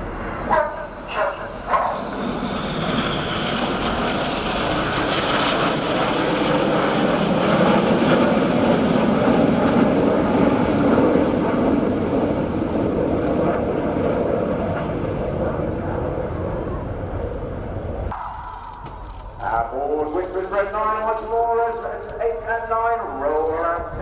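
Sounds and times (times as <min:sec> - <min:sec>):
jets flying by: 0:00.0 - 0:24.0.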